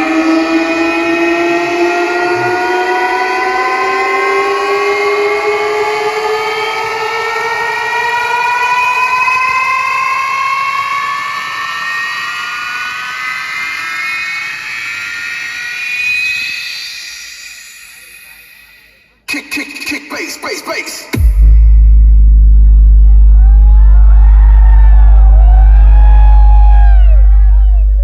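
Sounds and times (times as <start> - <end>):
rising siren-like sweep tone: 0.0 - 18.8, 21.1 - 28.0.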